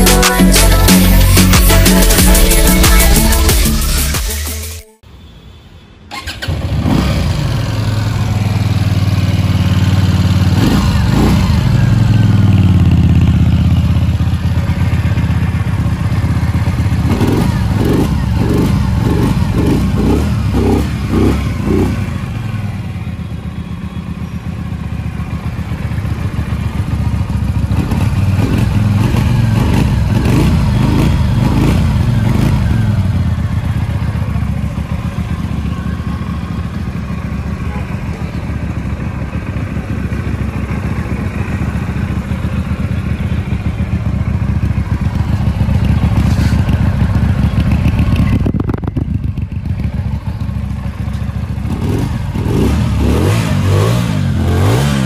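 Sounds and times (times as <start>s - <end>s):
motorcycle engine revving: 6.1s - 55.0s.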